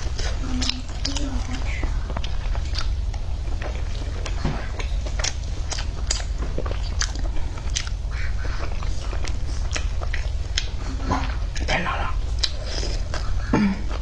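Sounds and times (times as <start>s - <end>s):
crunchy chewing: 0.0s - 14.0s
steady low hum: 0.0s - 14.0s.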